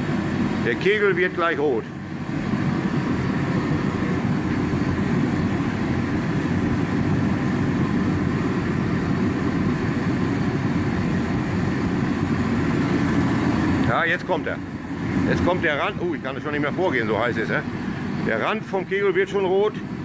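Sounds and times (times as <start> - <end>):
forced-air heater rushing: 0.0 - 20.0.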